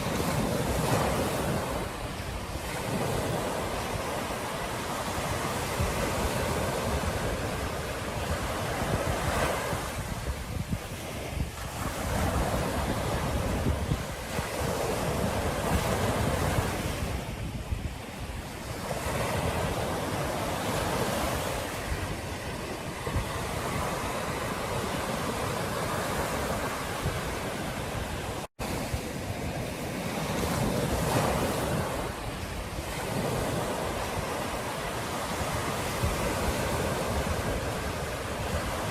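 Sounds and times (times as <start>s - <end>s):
ocean surf washing ashore: 0.0s - 38.9s
wind rumbling on microphone: 0.0s - 38.9s.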